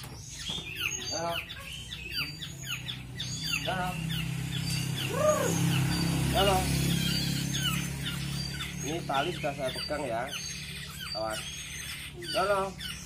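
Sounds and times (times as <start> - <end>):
birds chirping: 0.0 - 13.0
lower rounder bird calls: 0.0 - 13.0.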